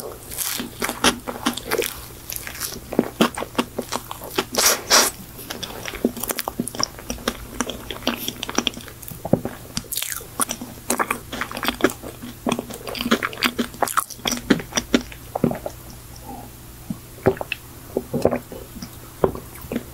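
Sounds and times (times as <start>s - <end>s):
wet chewing mouth clicks: 0.0s - 16.0s.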